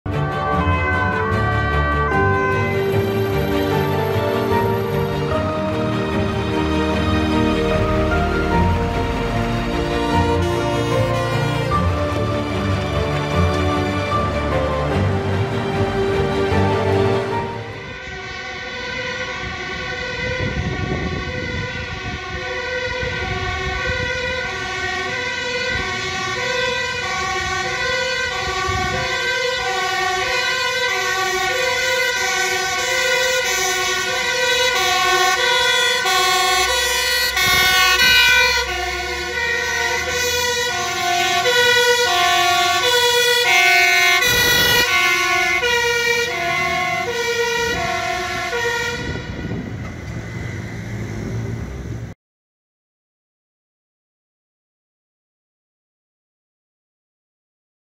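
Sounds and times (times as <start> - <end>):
truck engine rumble: 0.1 - 52.2
two-tone sirens: 0.1 - 52.2.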